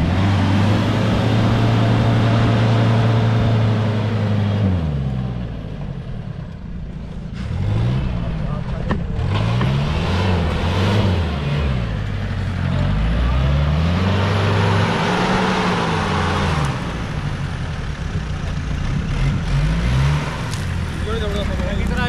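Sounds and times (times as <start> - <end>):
engine revving: 0.0 - 5.7, 7.0 - 22.0.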